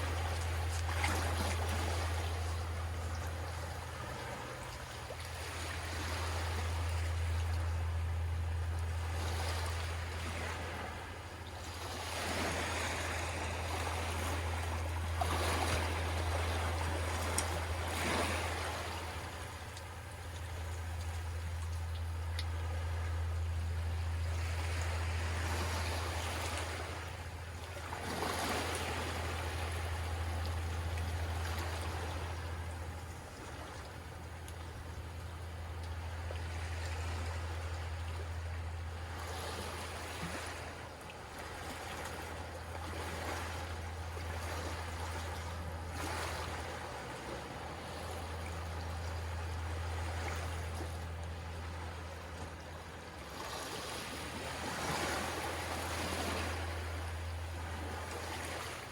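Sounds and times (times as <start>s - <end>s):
sea waves washing ashore: 0.0s - 58.9s
steady low hum: 0.0s - 58.9s.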